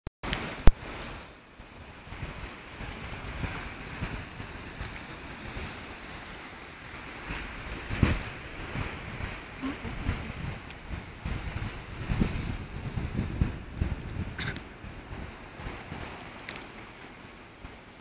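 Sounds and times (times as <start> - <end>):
waves washing against rocks: 0.2 - 18.0
wind buffeting microphone: 0.3 - 18.0.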